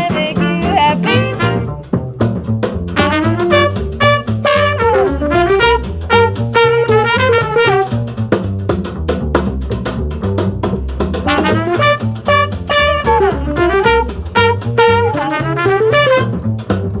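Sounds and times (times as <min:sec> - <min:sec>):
swing jazz band playing: 0:00.0 - 0:17.0.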